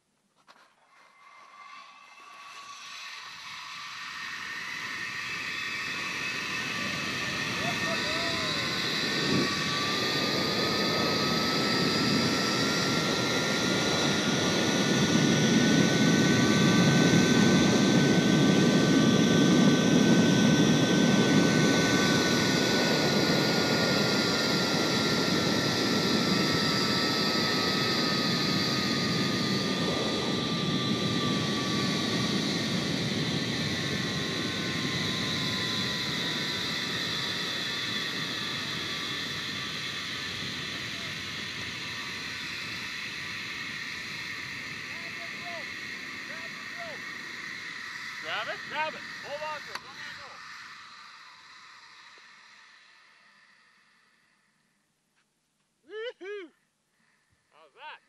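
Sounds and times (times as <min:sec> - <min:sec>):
zipline pulley wheels whining: 0:00.0 - 0:54.9.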